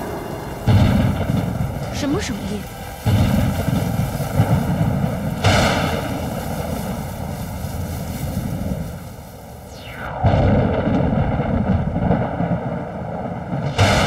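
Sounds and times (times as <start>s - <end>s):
cartoon rolling thunder: 0.0s - 7.5s, 9.5s - 14.0s.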